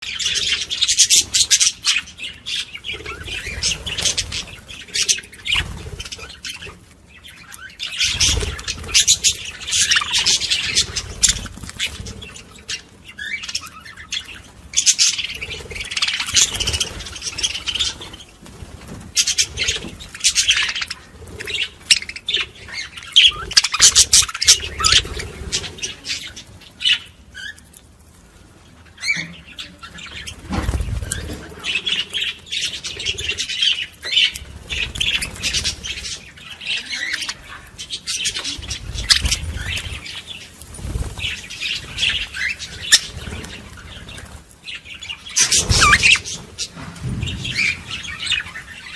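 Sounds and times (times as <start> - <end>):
budgerigars chattering and warbling: 0.0 - 27.6, 28.9 - 48.9.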